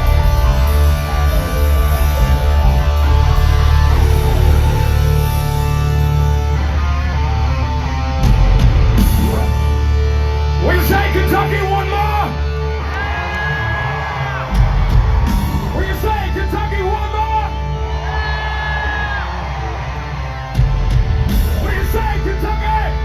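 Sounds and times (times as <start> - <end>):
hard rock band playing live: 0.0 - 23.0.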